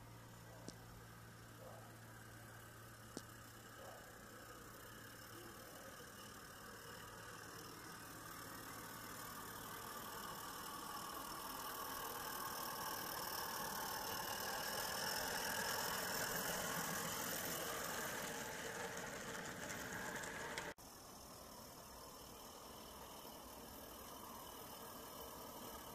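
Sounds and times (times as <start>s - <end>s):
steam locomotive running: 0.0s - 25.9s.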